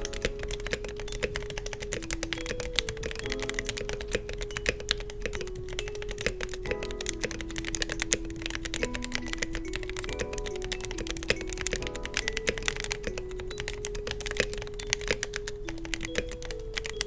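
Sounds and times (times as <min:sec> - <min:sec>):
mechanical keyboard typing: 0:00.0 - 0:17.0
soft background music: 0:00.0 - 0:17.0.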